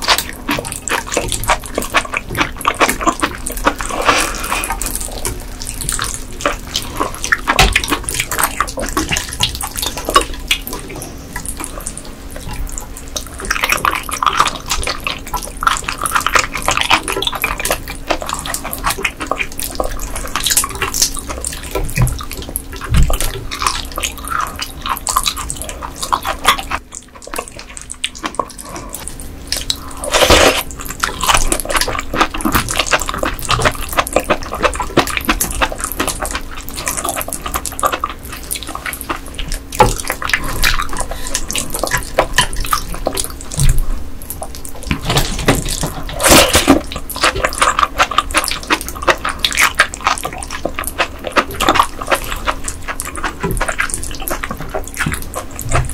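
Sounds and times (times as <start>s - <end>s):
wet slurping: 0.0s - 55.9s
wet squelching chewing: 0.0s - 55.9s.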